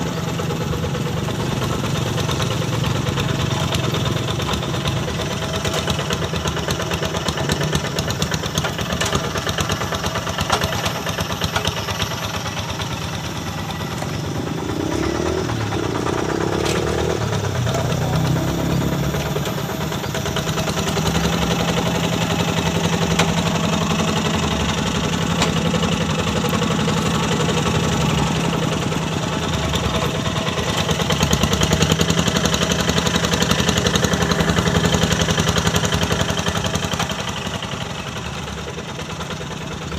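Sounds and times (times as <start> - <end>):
hand tractor diesel engine running: 0.0 - 39.9.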